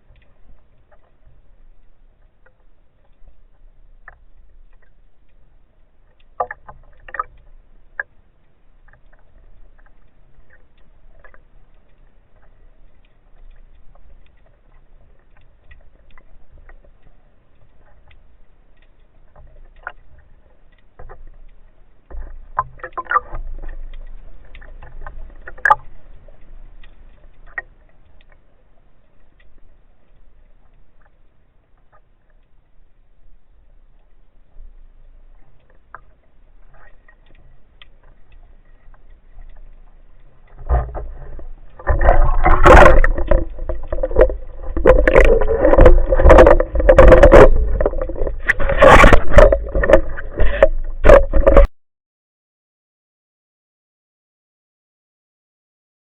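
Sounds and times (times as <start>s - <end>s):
low underwater rumble: 0.0s - 51.7s
underwater clicks and taps: 0.0s - 51.7s.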